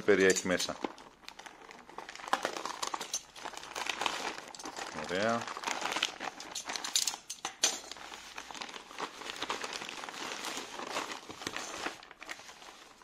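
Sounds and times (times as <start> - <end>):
plastic mailer bag crinkling: 0.0 - 13.0.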